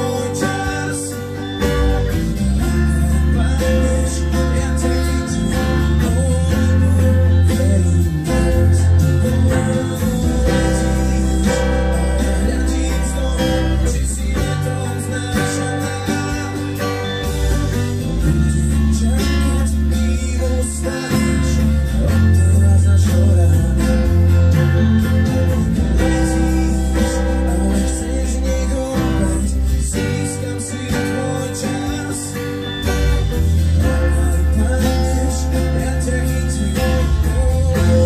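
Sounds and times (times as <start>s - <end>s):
acoustic guitar strumming chords: 0.0s - 38.0s.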